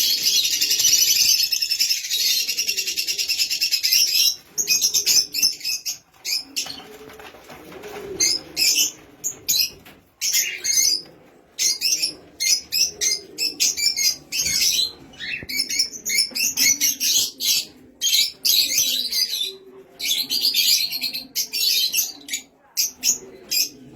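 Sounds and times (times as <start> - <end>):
small parrots chirping and chattering: 0.0 - 7.0, 8.2 - 23.8.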